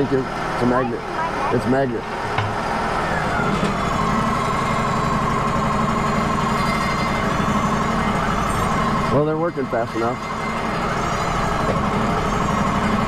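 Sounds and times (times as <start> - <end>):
hydraulic pump whine: 0.0 - 13.0
sawmill running: 0.0 - 13.0.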